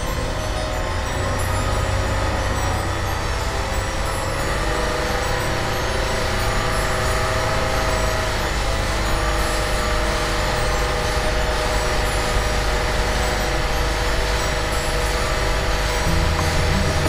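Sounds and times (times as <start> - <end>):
speedboat engine running: 0.0 - 17.0.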